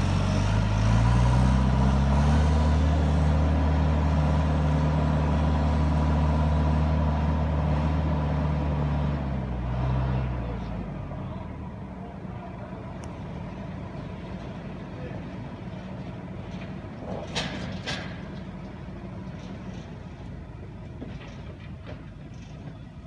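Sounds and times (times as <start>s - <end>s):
loader tractor engine running: 0.0s - 23.0s.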